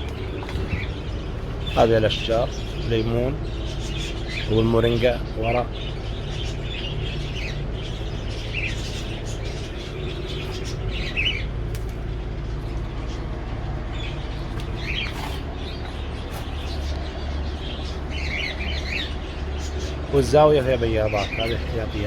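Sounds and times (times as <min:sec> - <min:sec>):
cage birds chirping: 0:00.0 - 0:22.0
low hum: 0:00.0 - 0:22.0.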